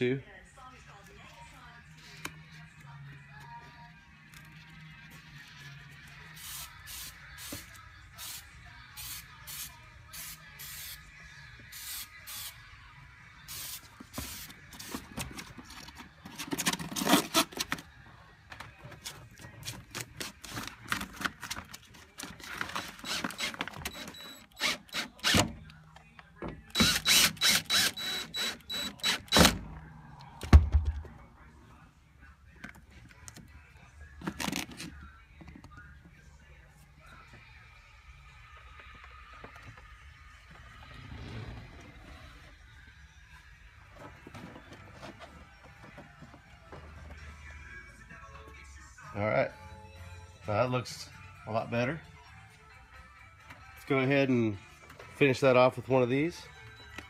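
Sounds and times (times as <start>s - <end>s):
music: 0.0s - 57.0s.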